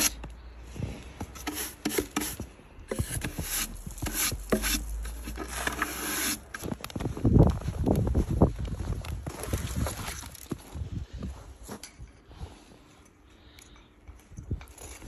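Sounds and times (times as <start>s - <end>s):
rustling and scraping handling noises: 0.0s - 15.0s.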